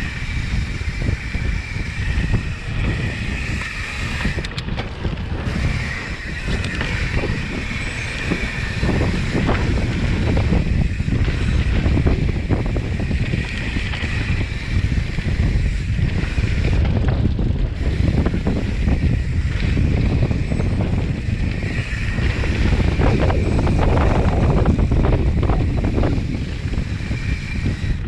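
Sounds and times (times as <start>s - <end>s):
bike rattling over bumps: 0.0s - 28.0s
wind buffeting microphone: 0.0s - 28.0s
tyre noise on dirt: 1.5s - 27.9s.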